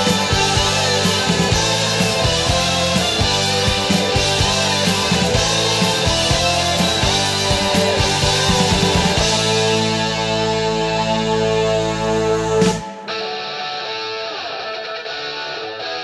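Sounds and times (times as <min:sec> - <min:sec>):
rock music with drum beat: 0:00.0 - 0:15.5.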